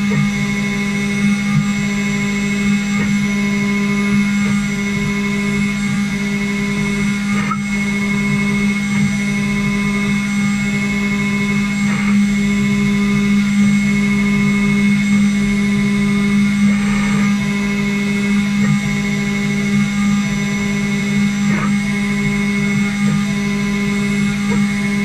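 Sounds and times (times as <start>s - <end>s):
cnc router spindle humming: 0.0s - 25.0s
pulsing tone: 0.0s - 25.0s.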